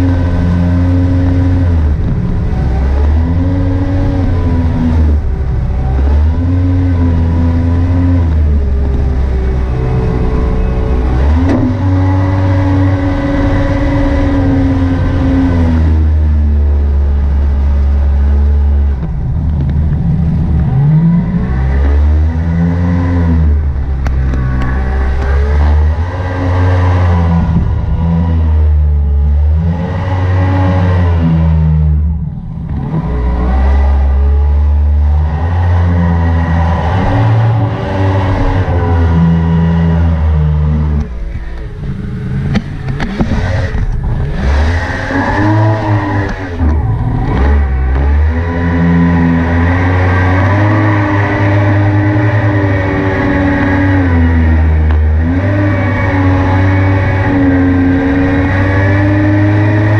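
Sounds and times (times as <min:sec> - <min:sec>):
jet boat engine revving: 0:00.0 - 0:59.9.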